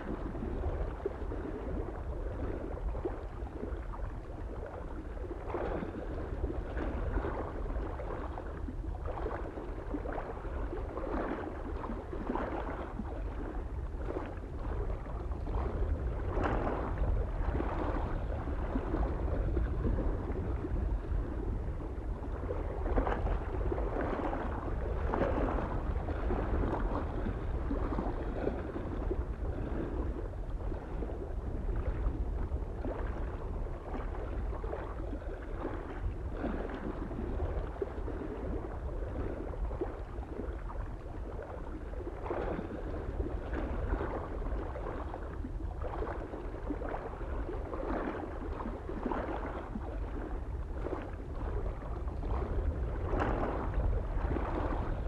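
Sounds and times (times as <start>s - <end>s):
low wind rumble: 0.0s - 55.0s
small waves lapping on shore: 0.0s - 55.0s.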